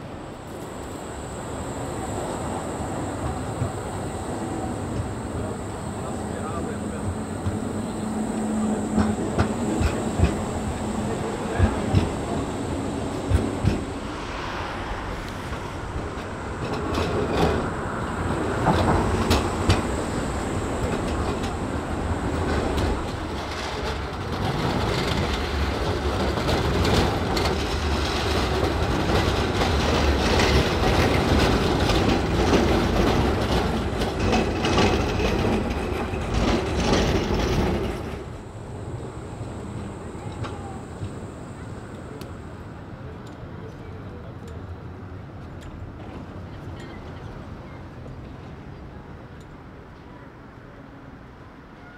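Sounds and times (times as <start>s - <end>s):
tram wheels clattering over rail joints: 0.3s - 42.3s.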